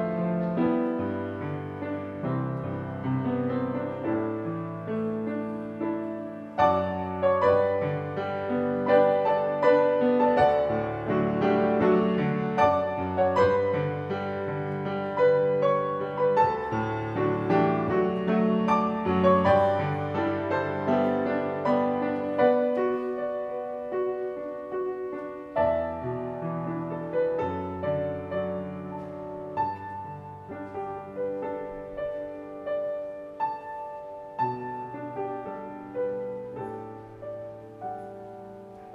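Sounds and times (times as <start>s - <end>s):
solo grand piano hymn: 0.0s - 38.9s.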